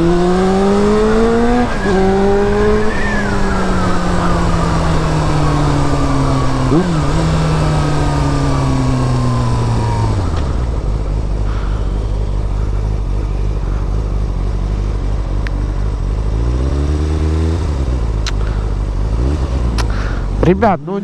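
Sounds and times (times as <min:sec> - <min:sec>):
road noise: 0:00.0 - 0:21.0
vehicle engine revving: 0:00.0 - 0:21.0.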